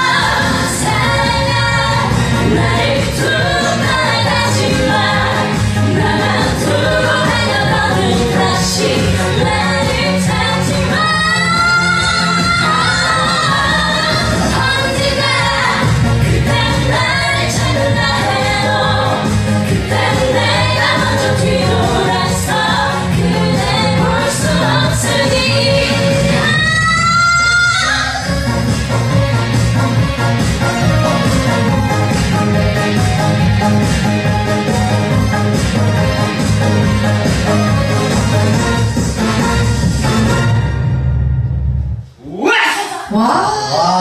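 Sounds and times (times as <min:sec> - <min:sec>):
backing track: 0:00.0 - 0:42.1.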